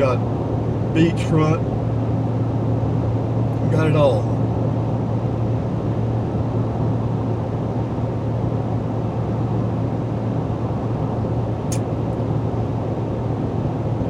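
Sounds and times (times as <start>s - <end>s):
truck road and engine noise: 0.0s - 14.0s.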